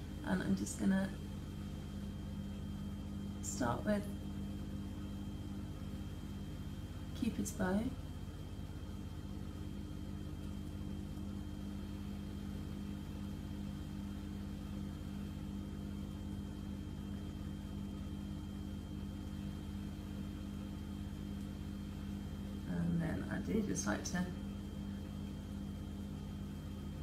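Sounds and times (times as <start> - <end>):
low background hum: 0.0 - 27.0.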